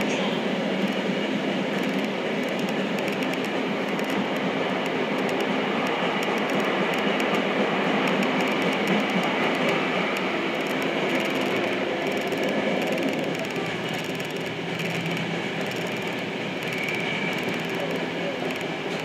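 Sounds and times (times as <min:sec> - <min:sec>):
subway train wheels rumbling: 0:00.0 - 0:19.0
faint rapid ticking: 0:01.7 - 0:19.0.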